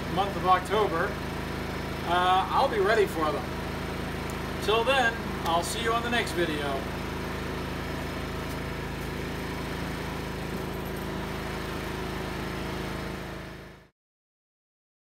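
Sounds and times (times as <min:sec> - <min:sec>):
generator engine running: 0:00.0 - 0:13.9.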